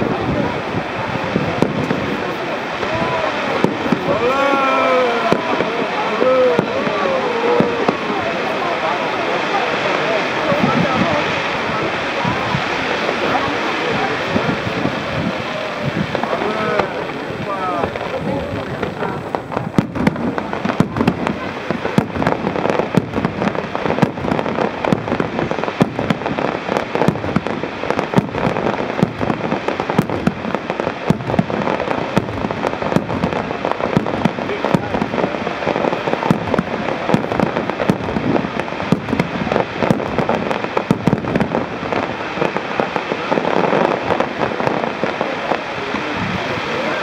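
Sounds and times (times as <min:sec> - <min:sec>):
fireworks bursting and crackling: 0:00.0 - 0:47.0.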